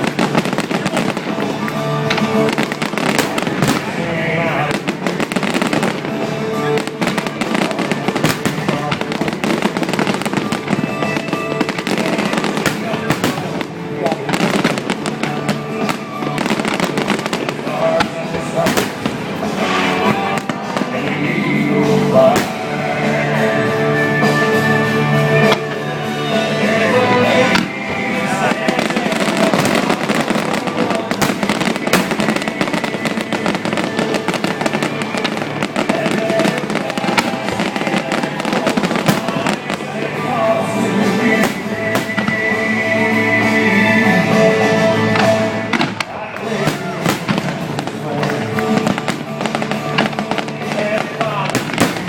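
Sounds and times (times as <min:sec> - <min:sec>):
fireworks exploding: 0:00.0 - 0:52.0
loud music: 0:00.0 - 0:52.0.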